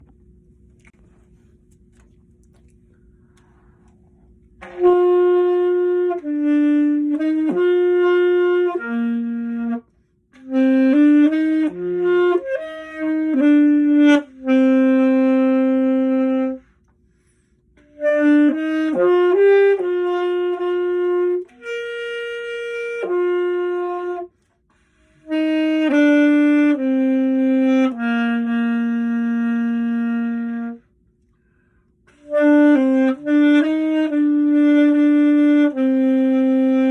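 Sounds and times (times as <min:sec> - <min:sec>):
solo saxophone melody: 0:04.5 - 0:16.9, 0:17.8 - 0:31.0, 0:32.0 - 0:36.9.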